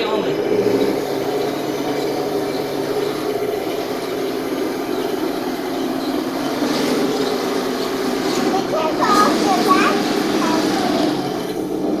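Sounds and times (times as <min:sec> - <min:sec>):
simulated engine hum from speaker: 0:00.0 - 0:12.0.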